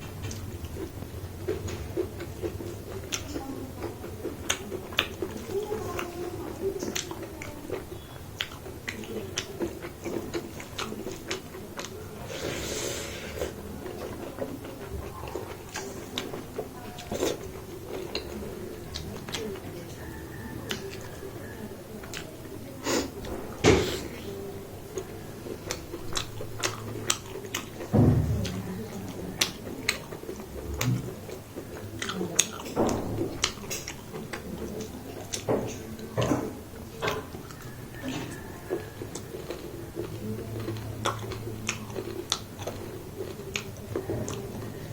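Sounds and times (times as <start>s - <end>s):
wet chewing: 0.0s - 44.9s.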